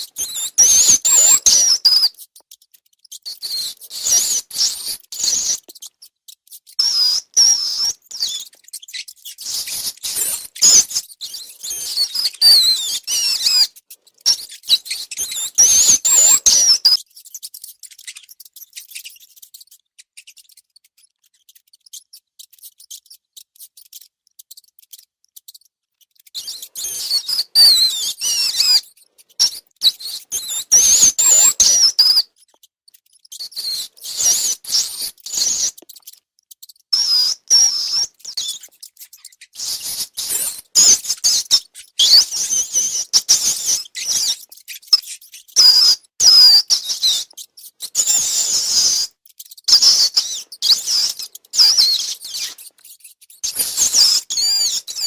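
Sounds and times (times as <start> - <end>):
rats squeaking: 0.0 - 55.0
small clicks and scratches: 0.0 - 55.0.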